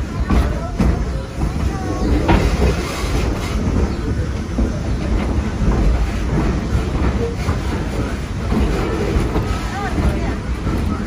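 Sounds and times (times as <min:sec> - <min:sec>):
train cars rumbling: 0:00.0 - 0:11.0
wheels clicking on rails: 0:00.0 - 0:11.0.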